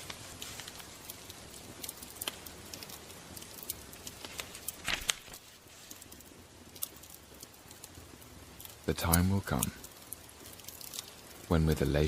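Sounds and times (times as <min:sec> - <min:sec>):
crackles and pops: 0:00.0 - 0:12.0
soft steady hiss: 0:00.0 - 0:12.0.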